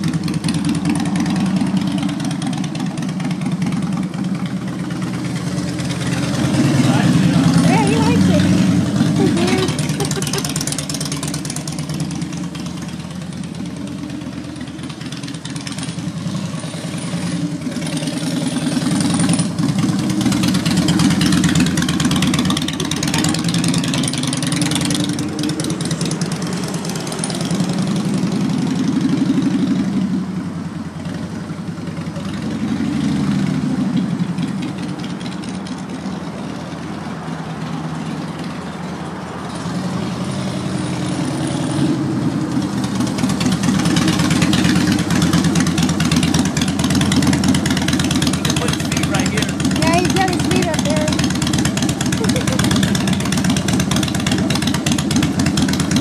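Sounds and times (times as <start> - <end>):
motorcycle engine riding: 0.0 - 56.0.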